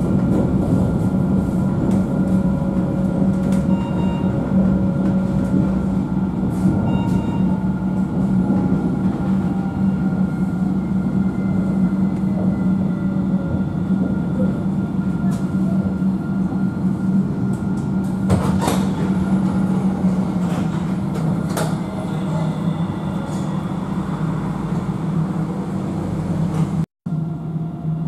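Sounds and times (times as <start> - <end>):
tram running hum: 0.0 - 28.0.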